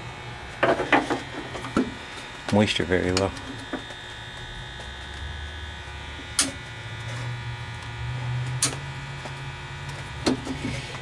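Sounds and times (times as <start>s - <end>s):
electrical buzz: 0.0s - 11.0s.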